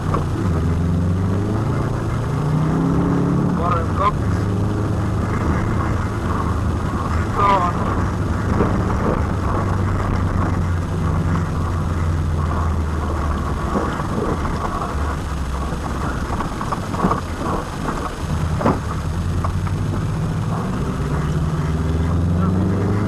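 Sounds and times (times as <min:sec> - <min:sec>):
rally car engine running hard: 0:00.0 - 0:23.0
road and body rattle: 0:00.0 - 0:23.0.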